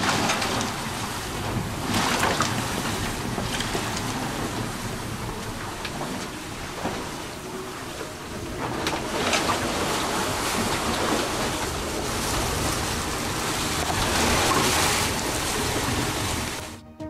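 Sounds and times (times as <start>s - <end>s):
rough sea rushing: 0.0s - 16.8s.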